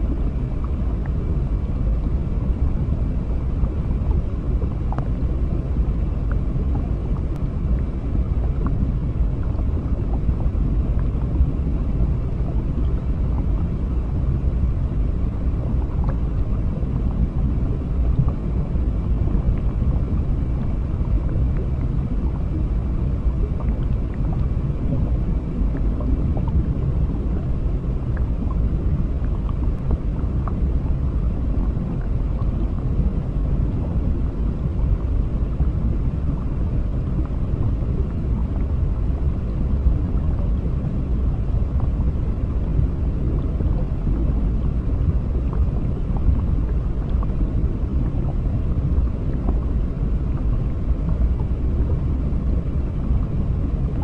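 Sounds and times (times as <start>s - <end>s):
underwater low rumble: 0.0s - 54.0s
faint underwater ticks: 3.6s - 13.8s, 15.6s - 22.8s, 23.4s - 40.6s, 41.2s - 52.0s.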